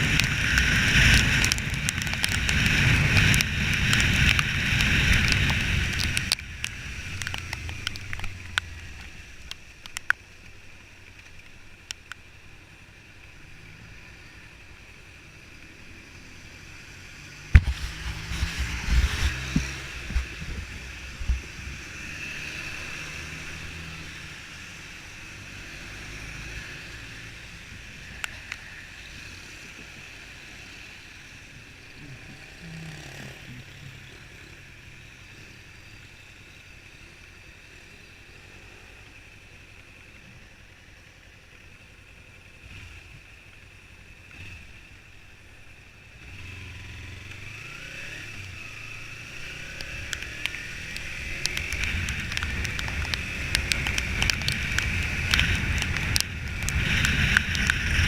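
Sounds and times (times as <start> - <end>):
motorcycle engine rumble: 0.0 - 25.3, 25.9 - 58.0
wind and road rush: 0.0 - 58.0.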